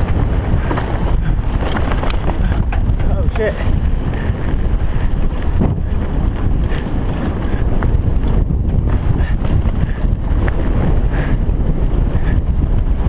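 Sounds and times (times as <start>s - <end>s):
bike clicks and rattles: 0.0s - 13.0s
wind rumble on microphone: 0.0s - 13.0s.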